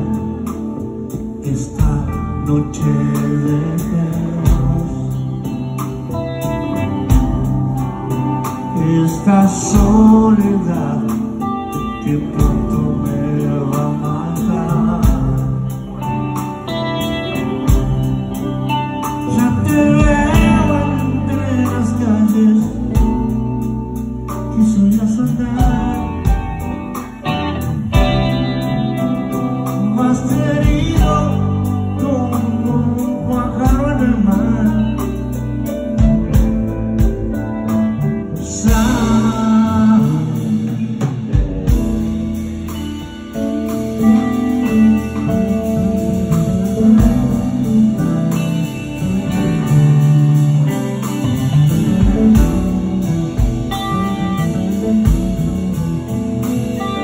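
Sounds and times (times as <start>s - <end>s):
bass and drums: 0.0s - 57.0s
electric guitar with bending notes: 0.0s - 57.0s.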